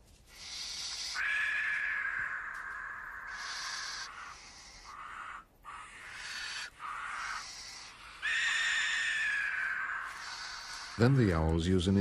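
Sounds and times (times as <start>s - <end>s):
owl chicks hissing begging calls: 0.3s - 11.5s.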